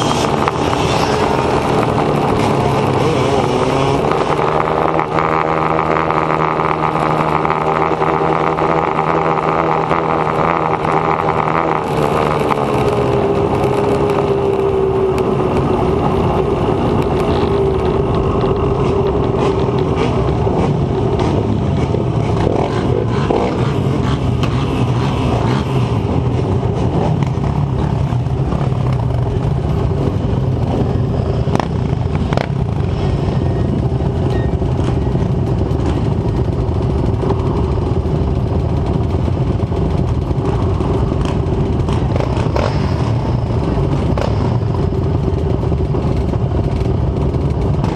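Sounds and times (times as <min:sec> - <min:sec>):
dirt bike engine running: 0:00.0 - 0:47.9
engine rattles and knocks: 0:00.0 - 0:47.9.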